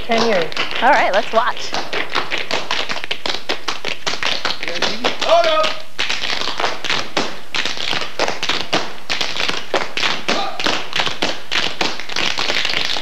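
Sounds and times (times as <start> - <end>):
tap shoes striking stage floor: 0.0 - 13.0.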